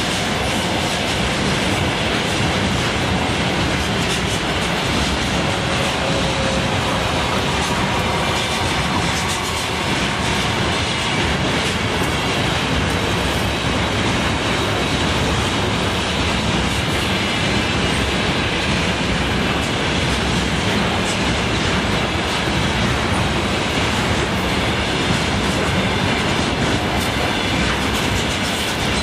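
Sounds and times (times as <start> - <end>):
clicks of train wheels: 0.0 - 29.0
train wheels rumbling on rails: 0.0 - 29.0.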